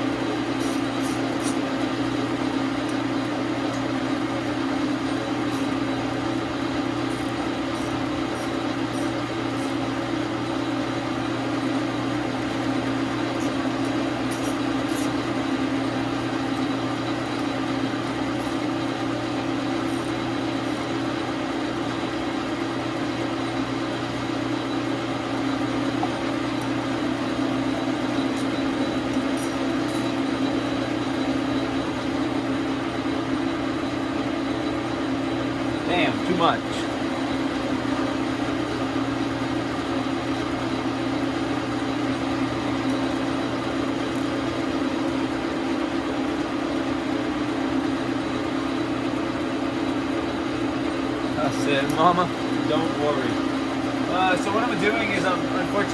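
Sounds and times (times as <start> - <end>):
lathe motor and gear hum: 0.0 - 55.9.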